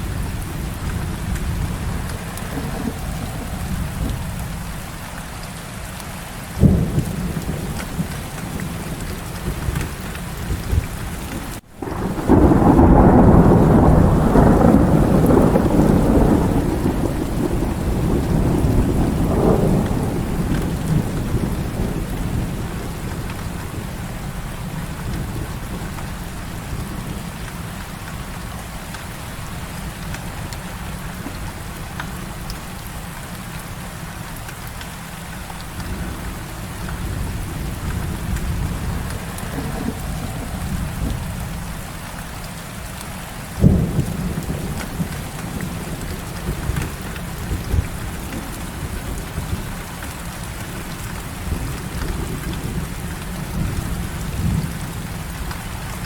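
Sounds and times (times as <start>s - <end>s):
thunder rolling: 0.0s - 5.1s, 6.6s - 28.3s, 35.7s - 42.4s, 43.6s - 56.0s
heavy rain: 0.0s - 56.0s.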